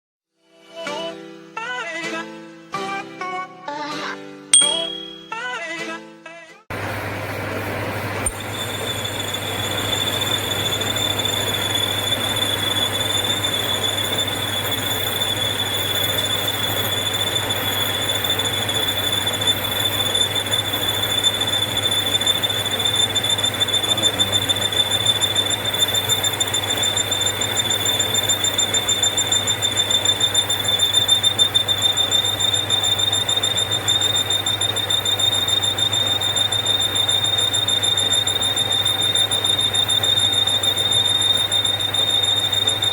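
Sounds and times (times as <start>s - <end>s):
lathe machine hum: 6.8s - 42.9s
cutting tool high-pitched squeal: 8.2s - 42.9s.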